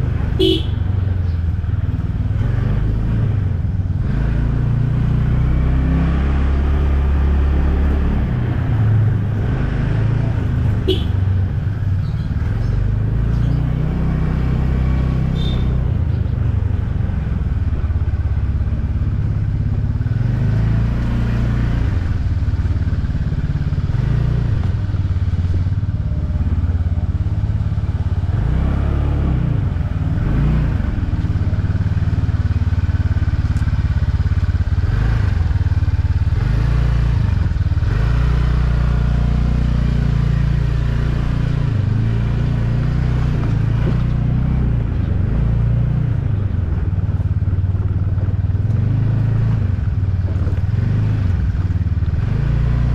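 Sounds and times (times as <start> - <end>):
motorcycle engine running: 0.0 - 52.9
road and wind rumble: 0.0 - 52.9.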